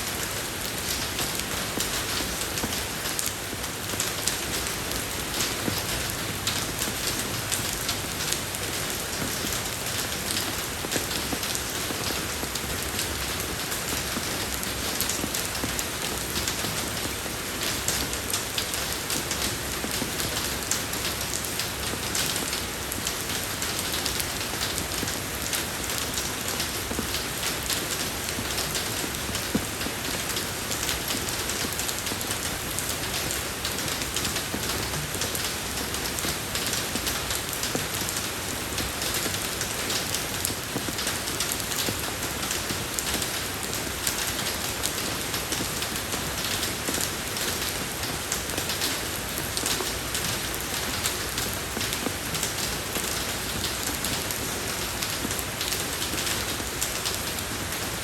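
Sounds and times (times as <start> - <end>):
rain on a road: 0.0 - 58.0.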